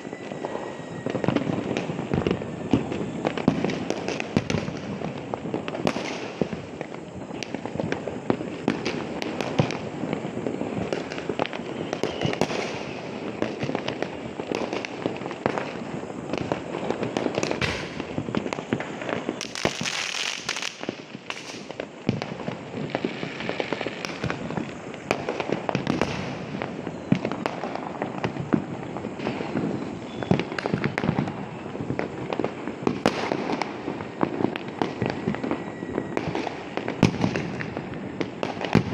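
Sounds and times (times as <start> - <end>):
firecrackers bursting: 0.0 - 38.9.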